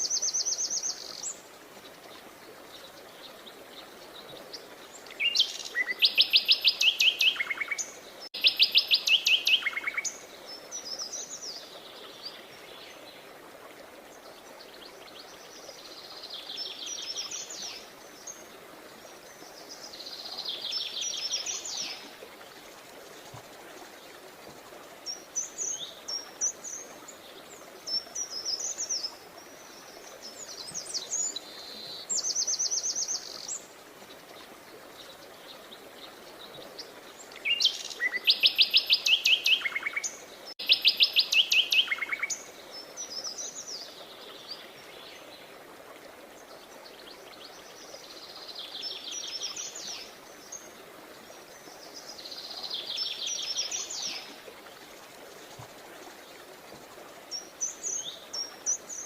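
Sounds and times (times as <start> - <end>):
songbirds singing: 0.0 - 13.4, 14.1 - 22.6, 24.9 - 45.6, 46.3 - 59.0
faint outdoor hiss: 0.0 - 59.0.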